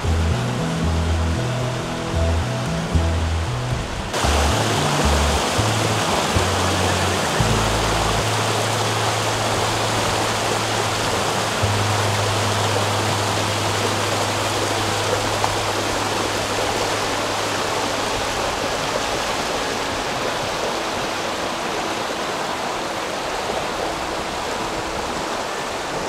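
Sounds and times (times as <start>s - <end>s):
low steady hum: 0.0s - 26.0s
stream water rushing: 0.0s - 26.0s.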